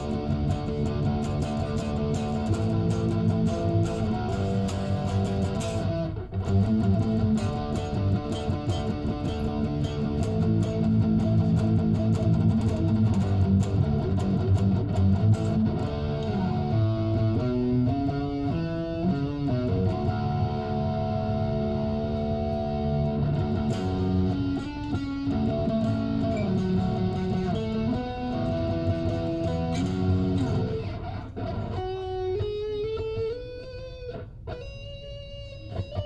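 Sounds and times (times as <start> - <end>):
electric guitar chords: 0.0 - 36.0.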